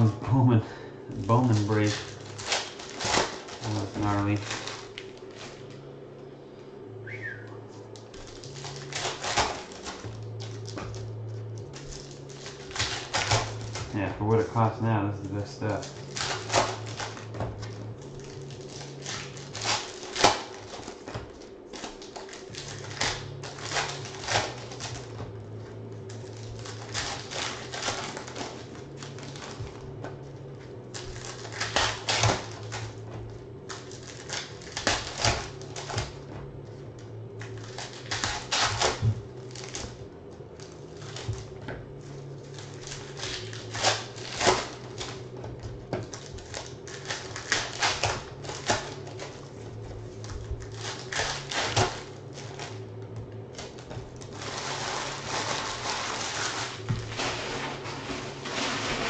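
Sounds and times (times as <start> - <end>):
foil packs crinkling: 0.0 - 6.0, 6.8 - 59.0.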